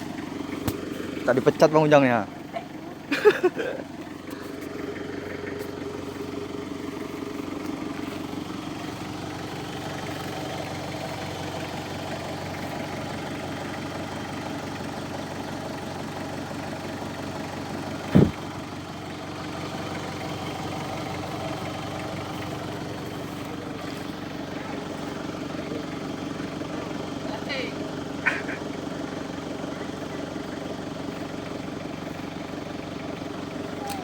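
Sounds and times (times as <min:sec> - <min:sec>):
vehicle engine running at low revs: 0:00.0 - 0:34.0.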